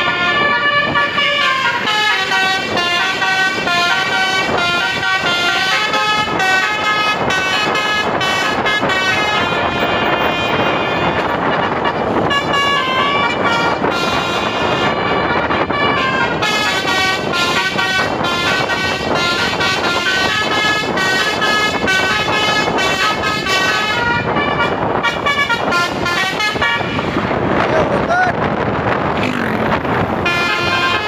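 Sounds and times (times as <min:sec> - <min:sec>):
multi-tone air horn melody: 0:00.0 - 0:27.6, 0:29.2 - 0:31.0
bus engine: 0:00.0 - 0:31.0
road noise: 0:00.0 - 0:31.0.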